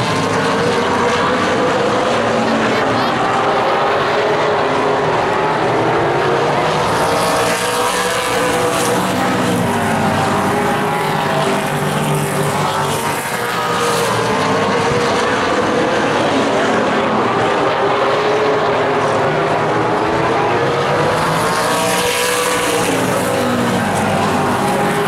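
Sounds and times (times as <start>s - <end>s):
race car engines running hard: 0.0s - 25.0s.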